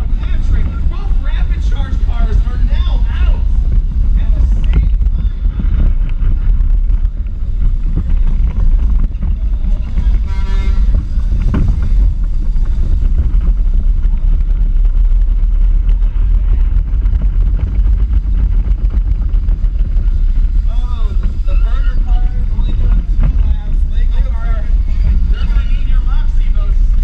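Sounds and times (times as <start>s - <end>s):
kart wheels and chassis rumbling: 0.0s - 27.0s
wind buffeting microphone: 0.0s - 27.0s.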